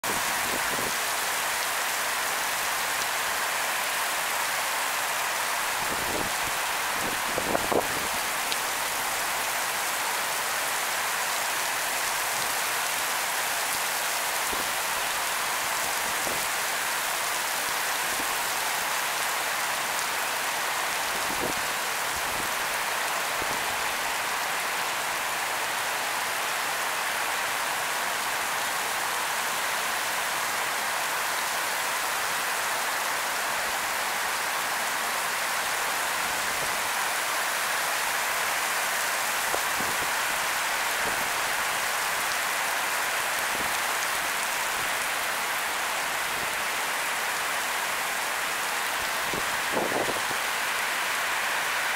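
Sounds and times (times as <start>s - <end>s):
heavy rain on pavement: 0.0s - 51.9s.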